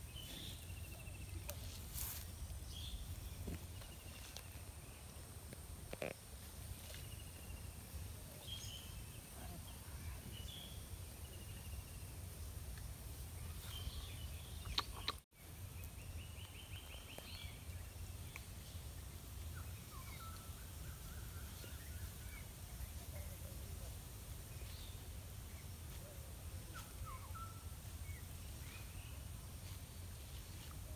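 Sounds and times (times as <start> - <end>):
small birds chirping: 0.0 - 5.2, 6.8 - 30.9.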